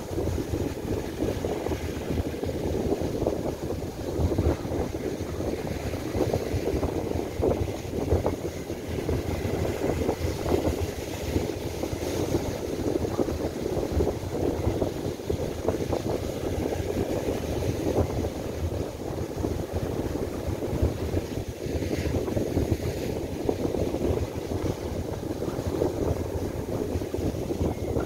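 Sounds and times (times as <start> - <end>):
surf breaking on beach: 0.0 - 28.0
wind buffeting microphone: 0.0 - 28.0.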